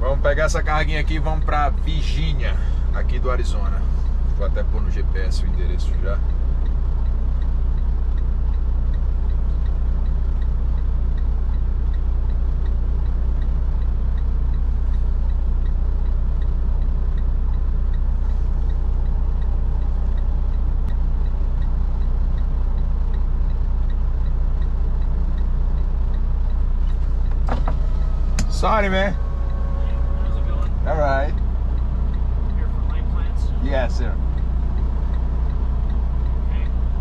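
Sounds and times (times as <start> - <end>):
faint regular ticking: 0.0 - 37.0
truck diesel engine idling: 0.0 - 37.0.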